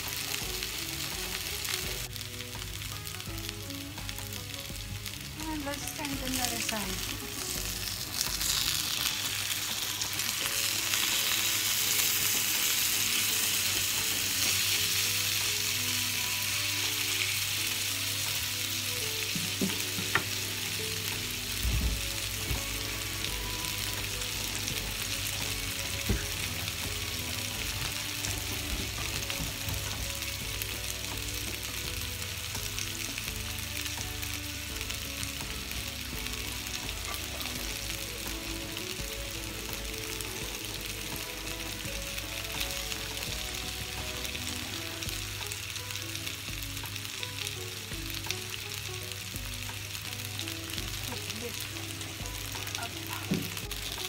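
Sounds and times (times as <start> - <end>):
fish sizzling in grill pan: 0.0 - 54.0.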